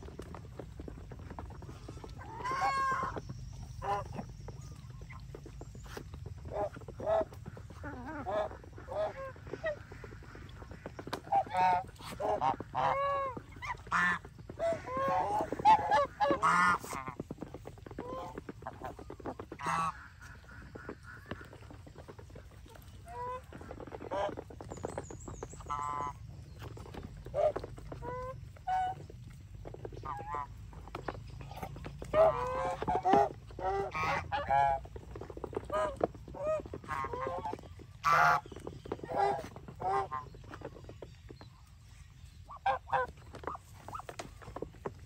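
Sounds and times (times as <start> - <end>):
geese and ducks honking: 0.0 - 41.5, 42.2 - 44.9.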